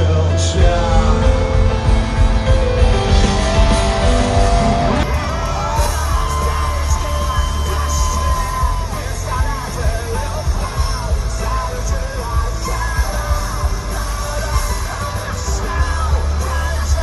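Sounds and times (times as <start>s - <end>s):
live rock band playing: 0.0s - 17.0s
person singing: 0.0s - 17.0s
people yelling: 3.0s - 17.0s.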